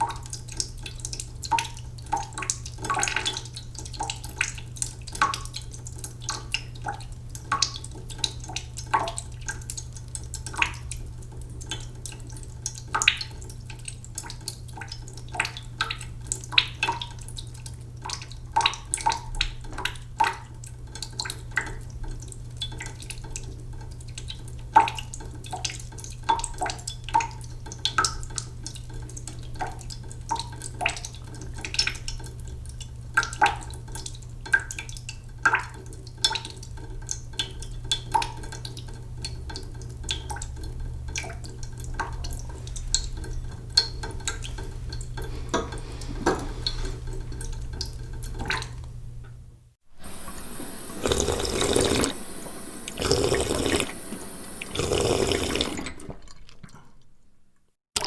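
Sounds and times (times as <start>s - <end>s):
water dripping into pot: 0.0s - 45.8s, 46.6s - 49.4s.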